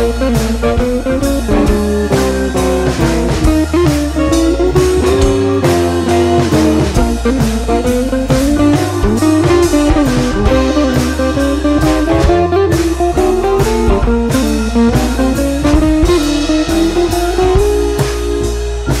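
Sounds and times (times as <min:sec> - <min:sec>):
guitar-led instrumental music: 0:00.0 - 0:19.0.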